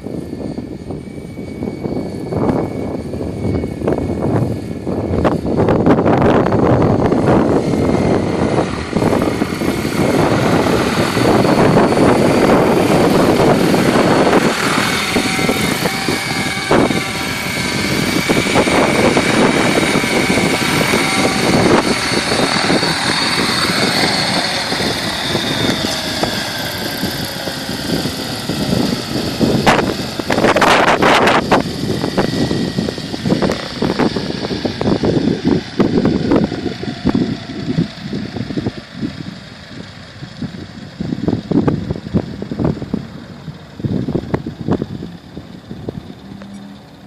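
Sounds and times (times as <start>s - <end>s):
model helicopter rotor whine: 0.0s - 47.0s
wind rumble on microphone: 0.0s - 47.0s.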